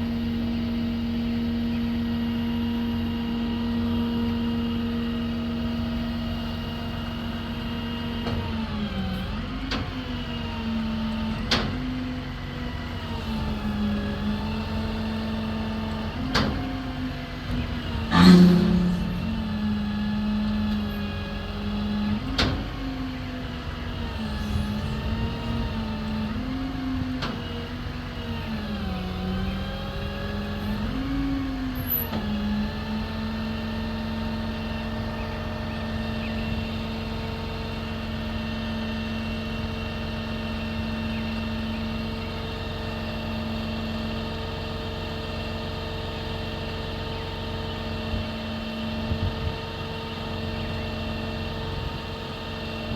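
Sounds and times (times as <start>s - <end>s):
truck engine hum: 0.0s - 52.9s.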